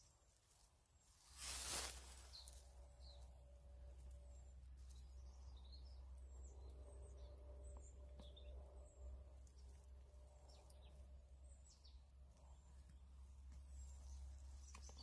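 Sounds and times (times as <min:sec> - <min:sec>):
small birds chirping: 0:01.0 - 0:03.3, 0:04.1 - 0:15.0
low steady rumble: 0:02.0 - 0:15.0.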